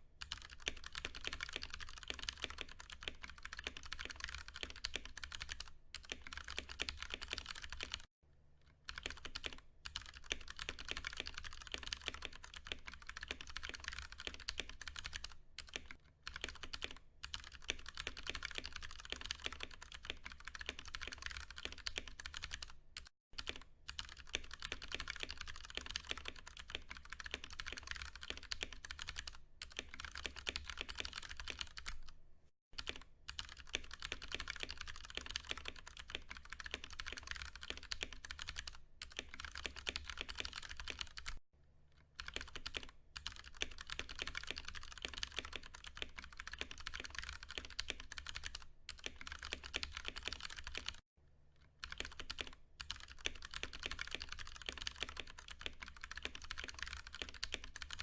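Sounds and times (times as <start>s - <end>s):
fast typing on mechanical keyboard: 0.2s - 8.1s, 8.8s - 32.2s, 32.8s - 41.4s, 42.2s - 51.0s, 51.8s - 58.0s.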